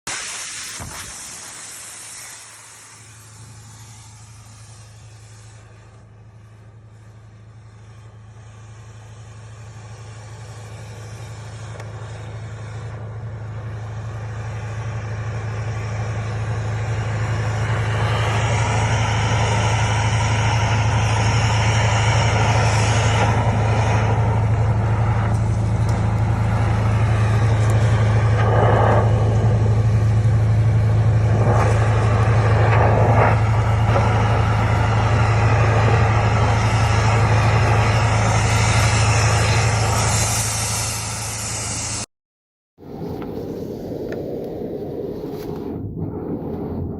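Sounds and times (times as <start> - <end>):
rushing noise: 0.1 - 42.1
motor-driven machine humming: 2.4 - 42.0.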